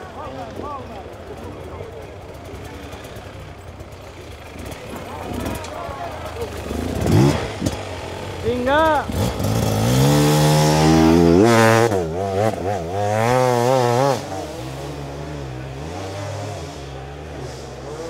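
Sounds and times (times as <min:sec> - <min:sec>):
dirt bike engine revving: 0:02.2 - 0:18.0.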